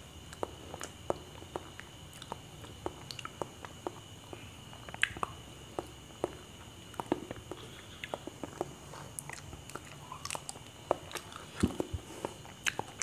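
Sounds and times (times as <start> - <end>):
person chewing bananas: 0.2 - 13.0
wet mouth clicks and smacks: 0.3 - 13.0.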